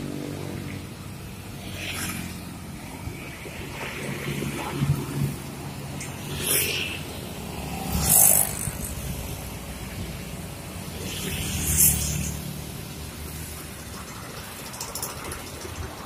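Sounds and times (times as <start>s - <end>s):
traffic engine drone: 0.0s - 16.0s
vehicles passing by: 0.0s - 16.0s.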